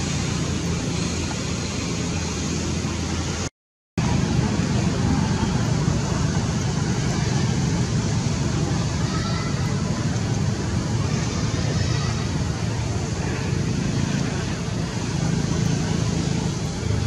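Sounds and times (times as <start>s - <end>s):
low engine-like hum: 0.0s - 17.0s
noisy rumble: 0.0s - 17.0s.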